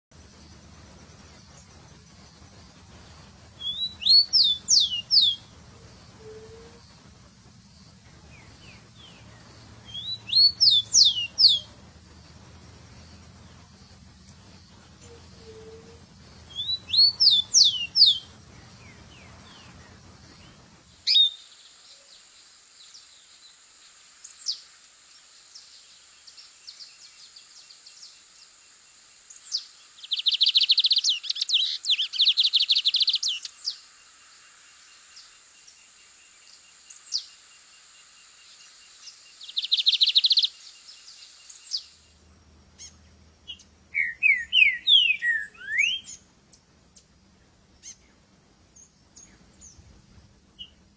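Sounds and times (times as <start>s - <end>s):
songbirds singing: 0.2s - 50.9s.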